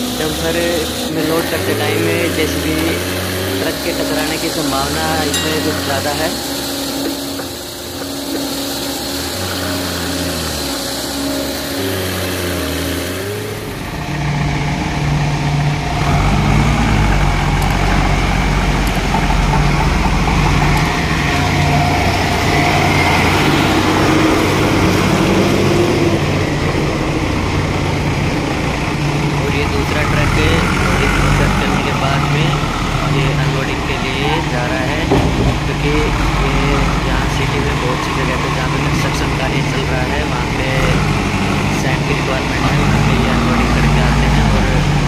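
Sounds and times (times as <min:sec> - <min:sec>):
backhoe diesel engine revving: 0:00.0 - 0:45.0.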